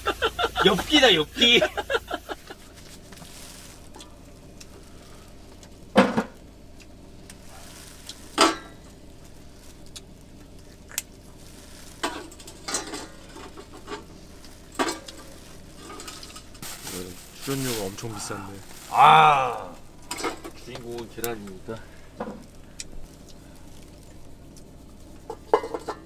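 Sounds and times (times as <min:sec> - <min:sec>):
utensils clanking: 0:02.3 - 0:26.0.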